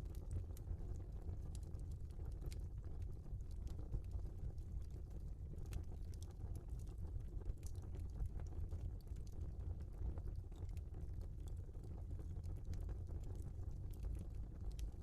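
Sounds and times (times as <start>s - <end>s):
low rumble of burning: 0.0s - 15.0s.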